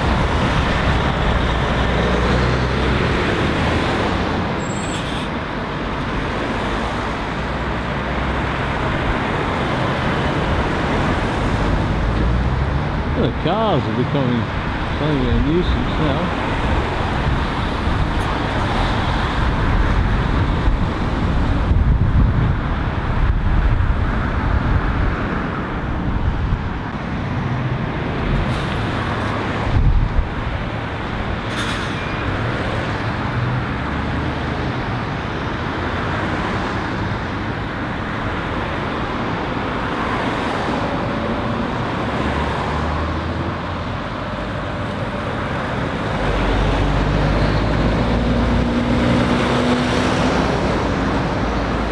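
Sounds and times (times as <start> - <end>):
cars passing: 0.0 - 51.9
lorry engines rumbling: 0.0 - 51.9.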